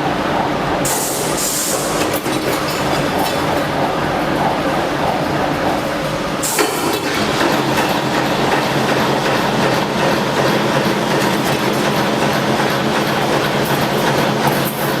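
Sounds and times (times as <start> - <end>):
machine mechanical clatter: 1.7 - 15.0.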